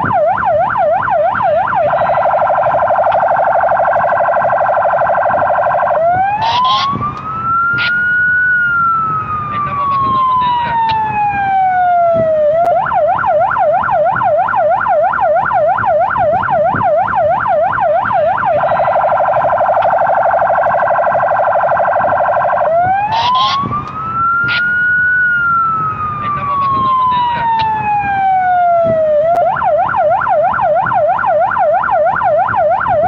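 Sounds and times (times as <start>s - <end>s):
police car electronic siren: 0.0s - 33.0s.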